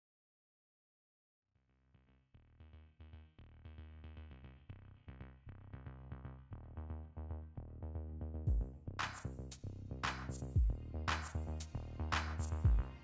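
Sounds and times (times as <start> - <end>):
electronic music with heavy bass: 2.4 - 13.0.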